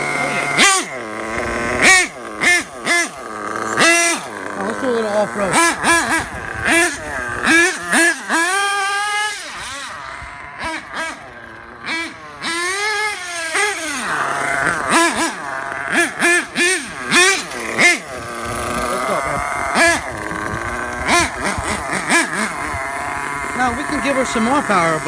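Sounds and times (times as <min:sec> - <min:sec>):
nitro engine revving: 0:00.0 - 0:25.0.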